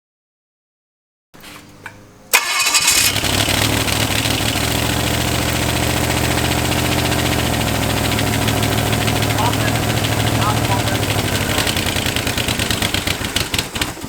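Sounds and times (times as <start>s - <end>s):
car engine starting and running: 1.4s - 14.0s.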